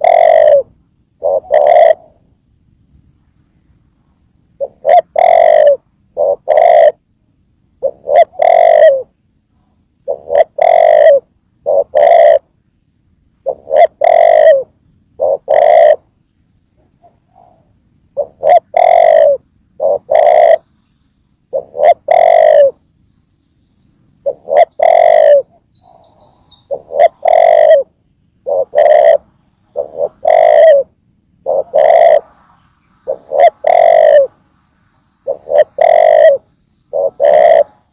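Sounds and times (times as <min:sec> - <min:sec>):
dove cooing: 0:00.0 - 0:02.4, 0:04.5 - 0:07.0, 0:07.8 - 0:12.6, 0:13.4 - 0:20.8, 0:21.5 - 0:22.8, 0:24.1 - 0:34.4, 0:35.2 - 0:37.9.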